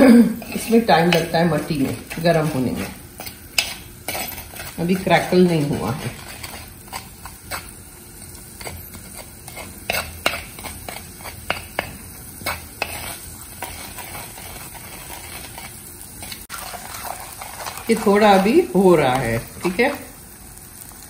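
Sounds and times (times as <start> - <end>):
spoon scraping a pot: 0.0 - 20.0
oil sizzling with crackling seeds: 0.0 - 21.0.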